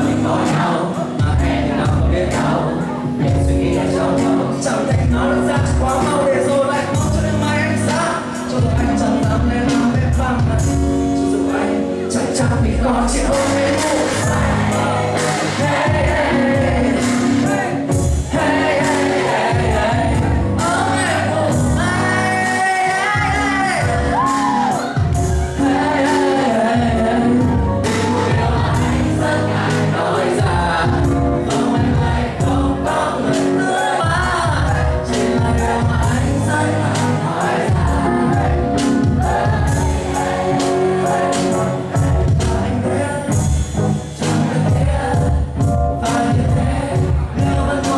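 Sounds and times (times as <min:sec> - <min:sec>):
live band playing pop song: 0:00.0 - 0:47.9
person singing: 0:00.0 - 0:47.9.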